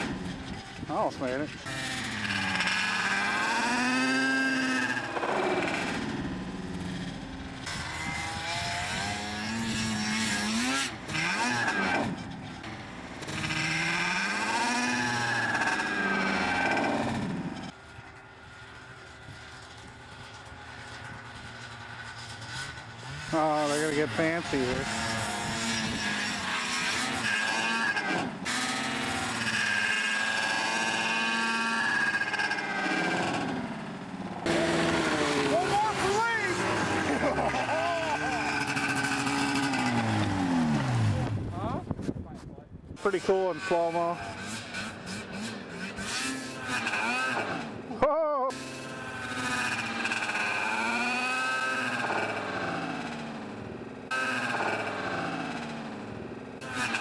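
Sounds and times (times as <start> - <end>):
snowmobile engine revving: 0.0 - 42.0, 43.0 - 57.0.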